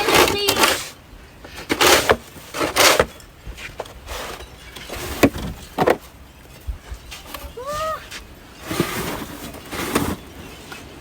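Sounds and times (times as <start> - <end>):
short knocks and scrapes: 0.0 - 6.1, 8.1 - 10.9.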